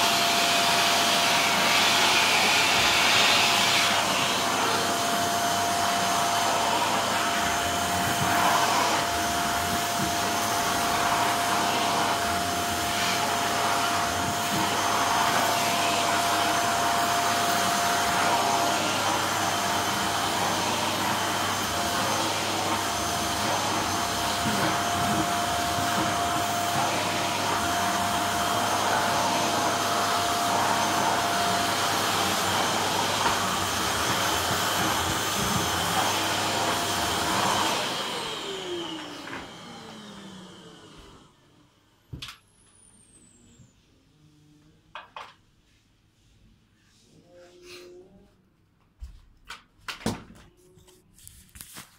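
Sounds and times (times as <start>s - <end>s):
vacuum cleaner running: 0.0s - 44.6s.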